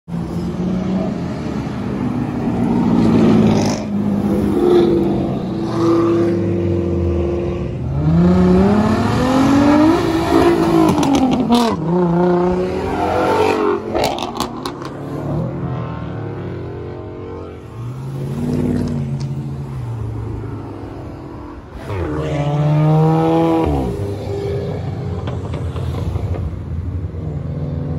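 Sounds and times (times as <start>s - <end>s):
car engines droning: 0.1s - 27.9s
car engine revving: 0.6s - 27.9s.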